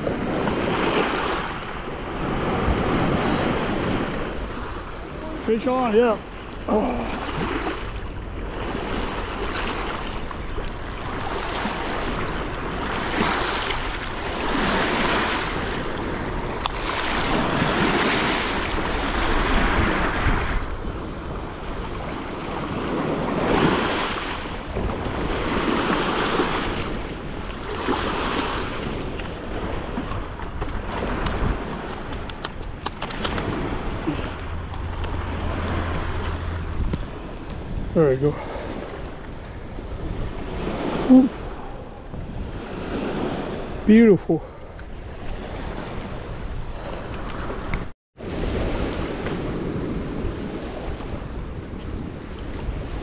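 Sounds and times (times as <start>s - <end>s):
small waves on rocky shore: 0.0s - 44.4s
wind on microphone: 0.0s - 53.0s.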